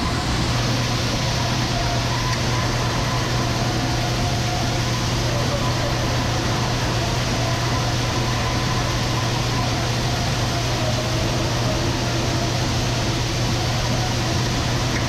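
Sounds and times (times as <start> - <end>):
constant low hum: 0.0 - 15.0
grain dryer fan drone: 0.0 - 15.0.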